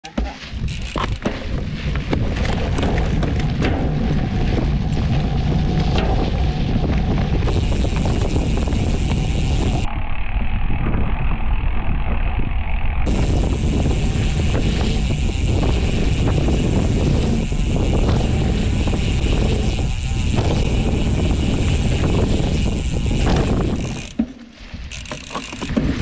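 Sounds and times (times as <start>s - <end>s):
bike rattling clicks: 0.0s - 26.0s
bike tyres rumbling over dirt: 0.2s - 26.0s
wind rushing over microphone: 0.5s - 26.0s.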